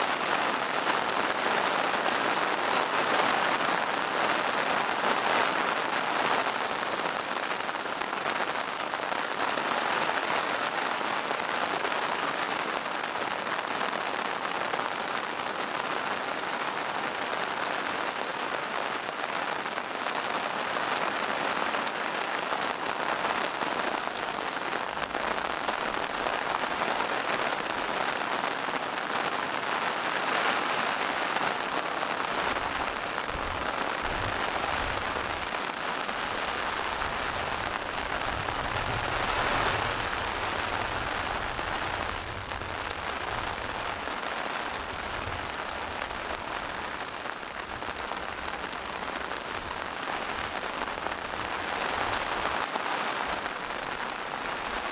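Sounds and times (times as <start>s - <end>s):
rain on foliage and rocks: 0.0s - 54.9s.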